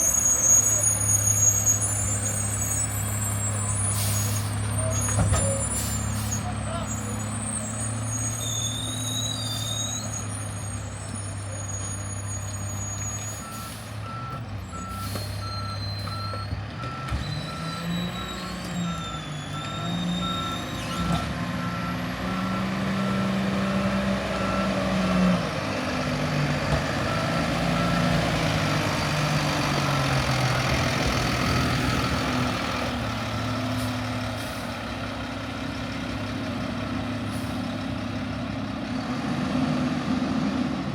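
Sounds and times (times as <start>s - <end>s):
truck reversing alarm beeping: 0.0s - 35.0s
truck engine revving: 0.0s - 40.9s.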